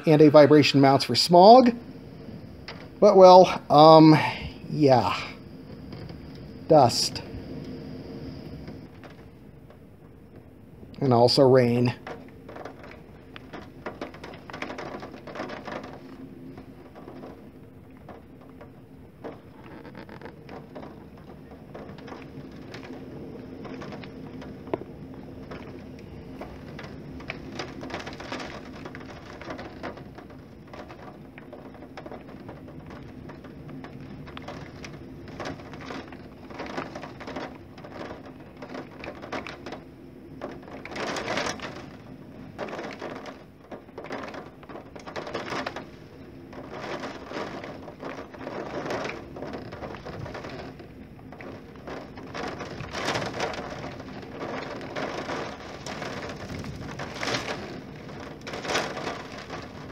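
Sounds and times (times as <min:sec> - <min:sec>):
faint steady hum: 0:00.0 - 0:59.9
rain against window pane: 0:00.0 - 0:59.9
storm wind gusting: 0:00.0 - 0:59.9.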